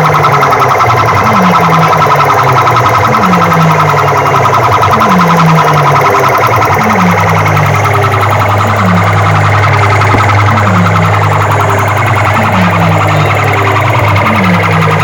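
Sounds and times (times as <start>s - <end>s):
loud electronic dance music: 0.0s - 15.0s
siren-like electronic effects: 0.0s - 15.0s.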